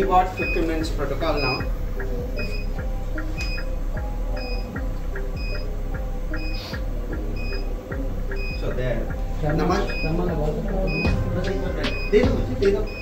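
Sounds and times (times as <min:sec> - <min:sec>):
machine beeping: 0:00.0 - 0:08.8, 0:09.5 - 0:13.0
faint ticking: 0:00.0 - 0:11.2
background music: 0:00.0 - 0:13.0.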